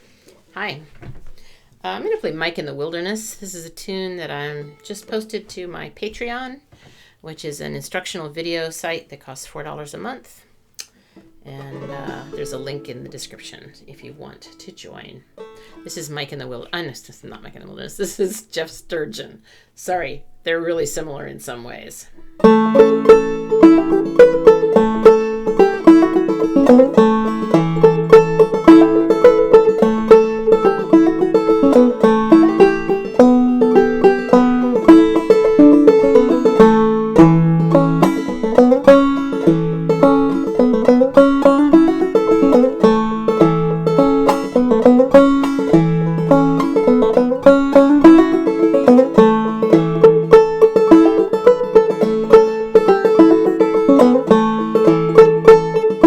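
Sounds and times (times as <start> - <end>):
banjo played clawhammer style: 1.4 - 6.5, 11.3 - 19.0, 20.2 - 56.0.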